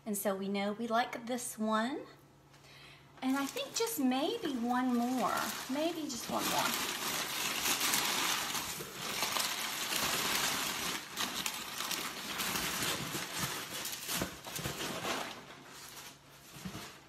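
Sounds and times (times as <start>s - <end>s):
packaging rustling and crinkling: 3.2s - 17.0s.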